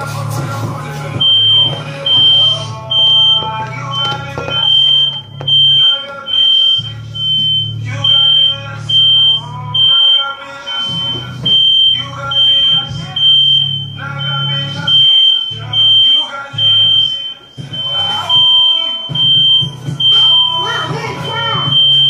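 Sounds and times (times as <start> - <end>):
high-pitched electronic beep: 1.2 - 22.0.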